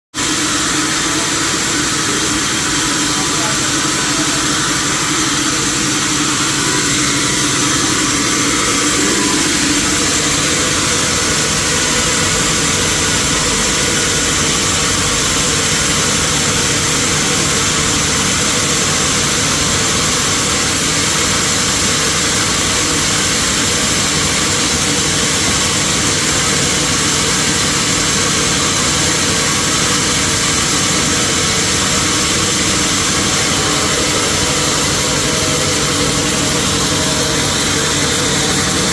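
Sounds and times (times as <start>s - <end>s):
sawmill machinery droning: 0.1s - 38.9s.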